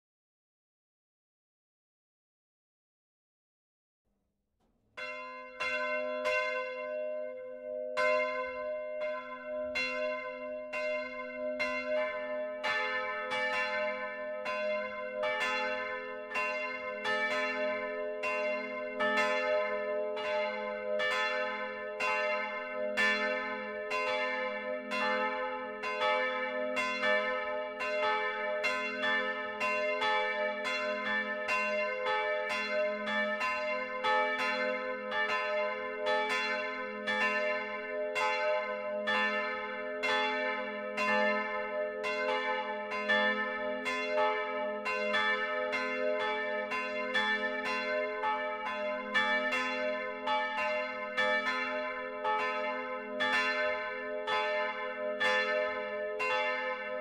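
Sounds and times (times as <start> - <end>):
church bell ringing: 5.0 - 57.0
lower church bell ringing: 5.0 - 57.0.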